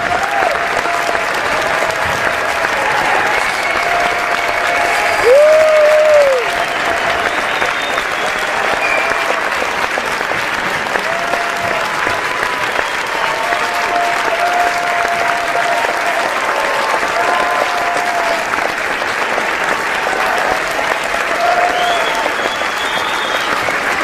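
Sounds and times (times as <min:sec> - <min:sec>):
audience clapping: 0:00.0 - 0:24.0
crowd cheering: 0:00.0 - 0:24.0.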